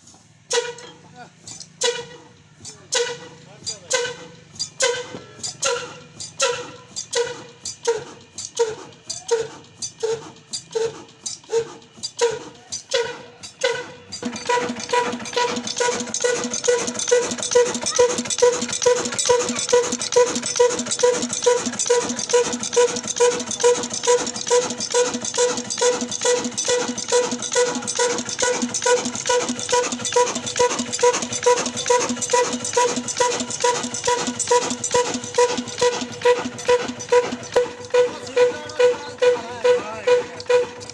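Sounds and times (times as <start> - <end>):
stationary diesel engine running: 0.0 - 40.9
steady clattering noise: 0.0 - 40.9.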